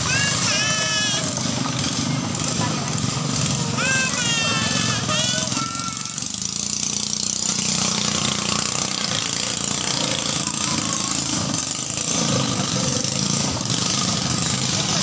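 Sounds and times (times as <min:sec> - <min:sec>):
small boat engine pulsing: 0:00.0 - 0:15.0.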